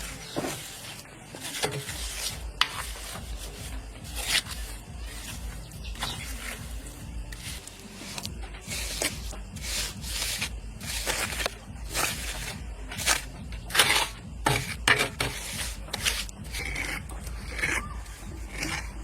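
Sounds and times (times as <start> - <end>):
rough scraping strokes: 0.0 - 19.0.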